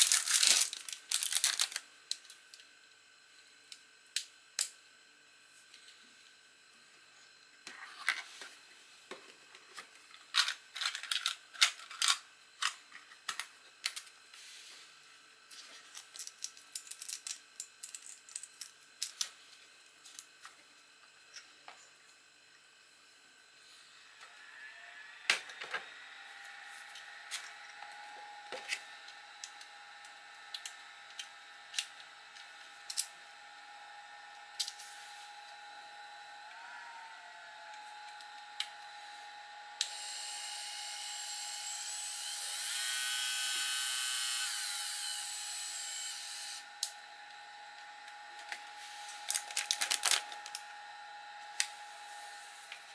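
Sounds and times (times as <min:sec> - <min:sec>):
faint steady whine: 0:00.0 - 0:52.9.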